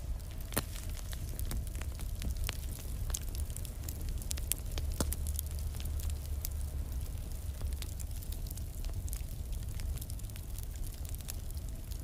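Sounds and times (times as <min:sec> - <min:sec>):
fire crackling and popping: 0:00.0 - 0:12.0
low rumble of flames: 0:00.0 - 0:12.0.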